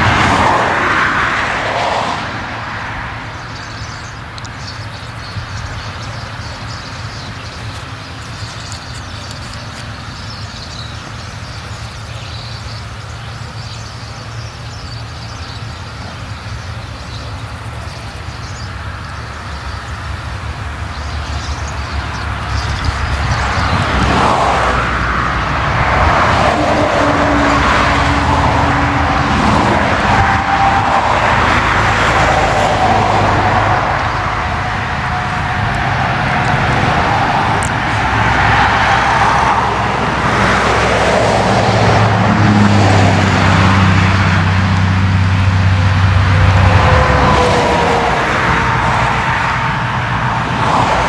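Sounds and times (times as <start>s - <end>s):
broad rushing noise: 0.0s - 51.0s
engine hum: 0.0s - 51.0s.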